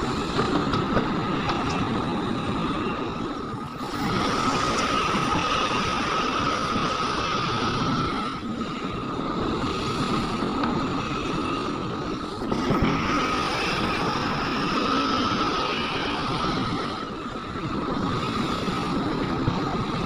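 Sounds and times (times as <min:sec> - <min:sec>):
diesel machinery rumbling: 0:00.0 - 0:20.0
high-pitched machine whine: 0:00.0 - 0:20.0.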